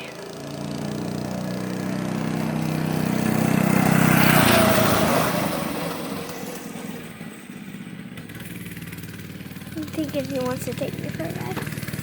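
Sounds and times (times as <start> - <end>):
dirt bike engine passing by: 0.0 - 12.0.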